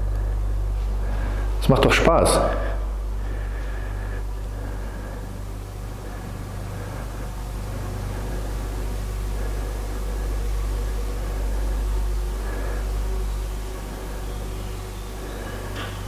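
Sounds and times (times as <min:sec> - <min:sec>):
constant even hiss: 0:00.0 - 0:16.0
steady low hum: 0:00.0 - 0:16.0.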